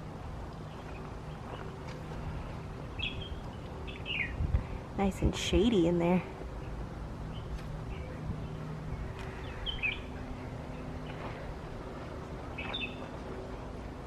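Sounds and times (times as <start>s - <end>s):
faint steady hum: 0.0s - 14.0s
small birds chirping: 0.6s - 13.7s.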